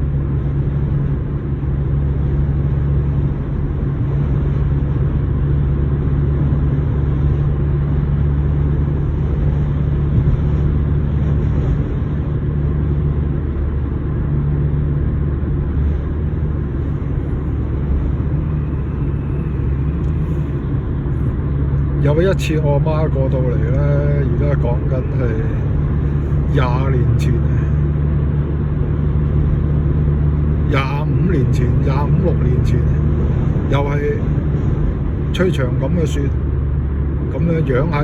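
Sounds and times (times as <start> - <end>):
car interior highway drone: 0.0 - 38.0.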